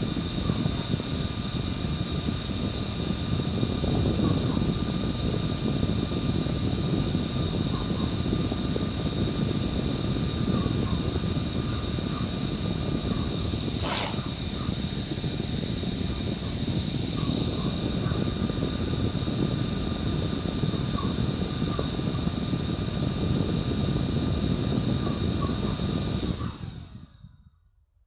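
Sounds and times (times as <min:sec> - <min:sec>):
electric fan whirring: 0:00.0 - 0:27.0
fan motor whine: 0:00.0 - 0:27.3.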